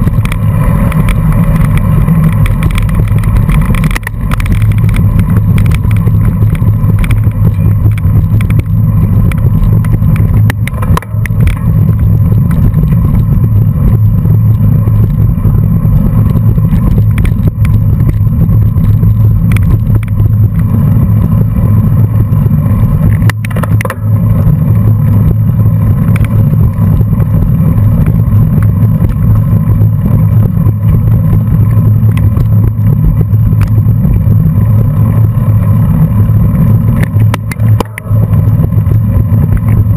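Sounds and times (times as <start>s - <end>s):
road vibration rumble: 0.0s - 39.9s
wind buffeting microphone: 0.0s - 39.9s.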